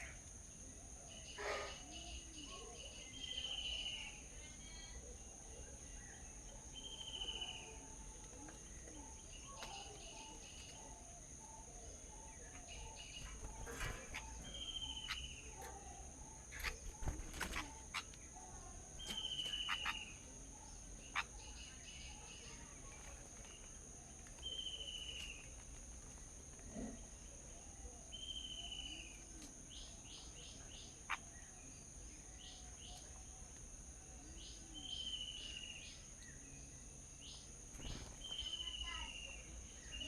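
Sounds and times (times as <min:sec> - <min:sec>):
bird chirps: 0:01.1 - 0:23.6, 0:24.3 - 0:25.6, 0:26.7 - 0:33.2, 0:34.3 - 0:40.0.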